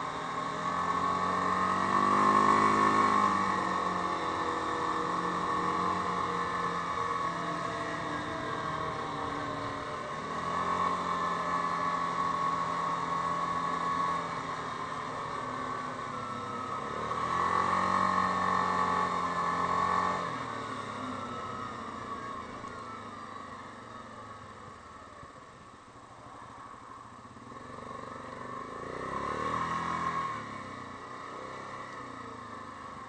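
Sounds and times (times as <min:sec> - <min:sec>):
quad engine running: 0:00.0 - 0:33.0.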